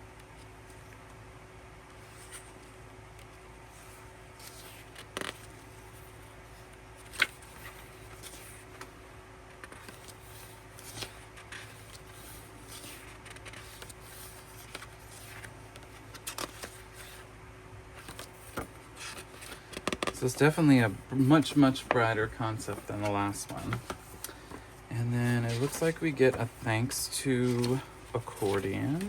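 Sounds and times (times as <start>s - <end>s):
faint steady hum: 0.0s - 29.0s
paper rustling: 3.7s - 8.9s, 9.6s - 17.3s, 18.0s - 29.0s.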